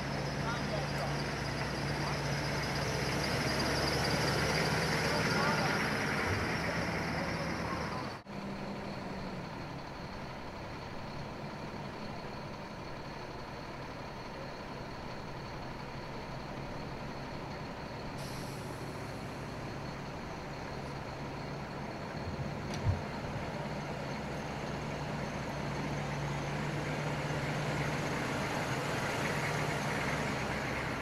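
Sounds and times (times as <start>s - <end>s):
diesel engines idling: 0.0s - 31.0s.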